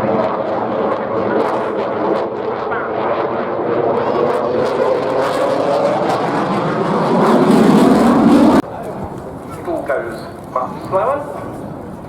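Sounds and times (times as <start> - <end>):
jet engine noise: 0.0 - 12.0.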